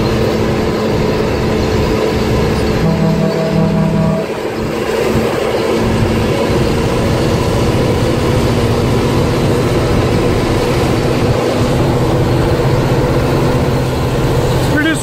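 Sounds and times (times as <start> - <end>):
road noise inside cab: 0.0 - 15.0
truck diesel engine drone: 0.0 - 15.0.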